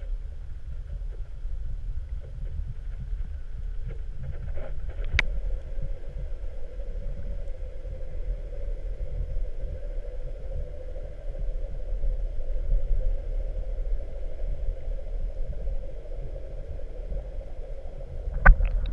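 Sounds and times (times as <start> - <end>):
constant hum: 0.0 - 18.9
underwater low rumble: 0.0 - 18.9.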